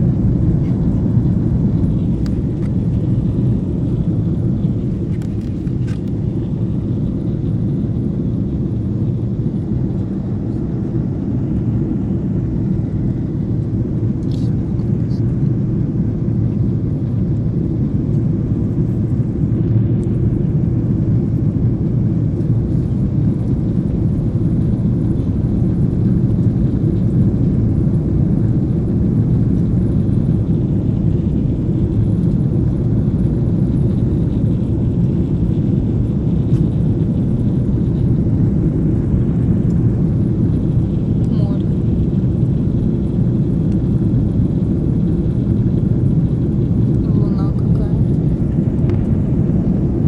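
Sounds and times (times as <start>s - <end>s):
airliner cabin engine drone: 0.0s - 50.0s.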